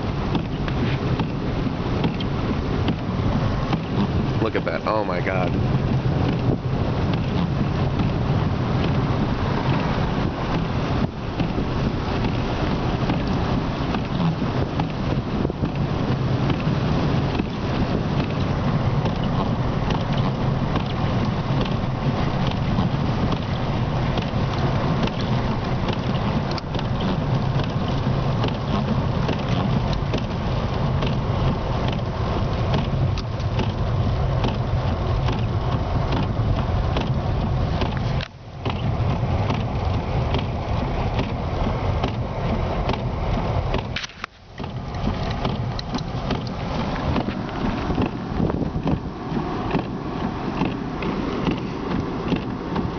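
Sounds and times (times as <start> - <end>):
car road and engine rumble: 0.0 - 52.9
wind noise: 0.0 - 52.9.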